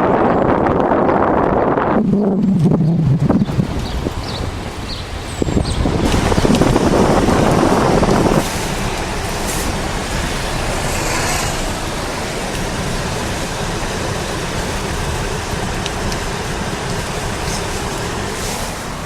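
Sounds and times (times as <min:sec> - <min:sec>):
car road and tyre noise: 0:00.0 - 0:19.0.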